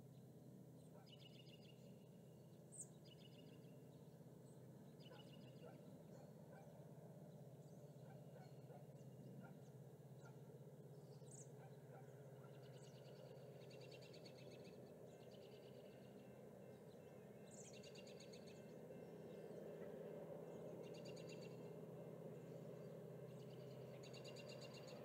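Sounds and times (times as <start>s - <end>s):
songbirds trilling: 0.0s - 25.0s
steady low hum: 0.0s - 25.0s.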